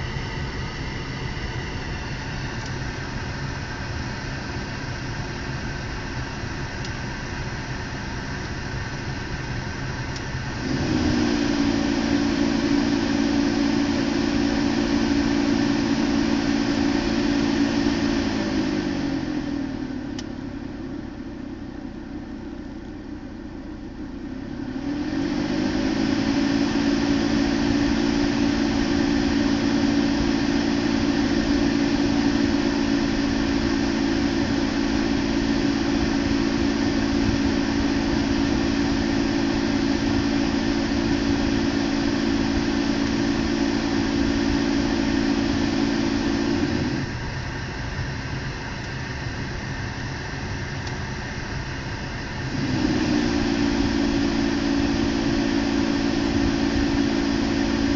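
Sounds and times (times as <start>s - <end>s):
air conditioning droning hum: 0.0s - 57.9s.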